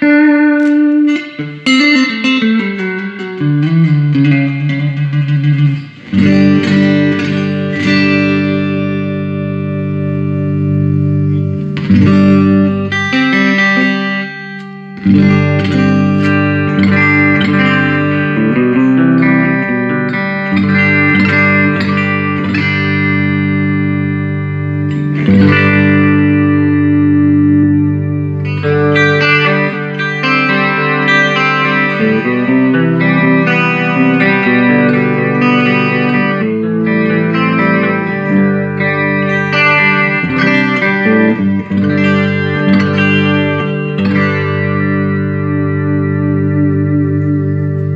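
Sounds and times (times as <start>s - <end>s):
electric guitar chords: 0.0s - 47.9s.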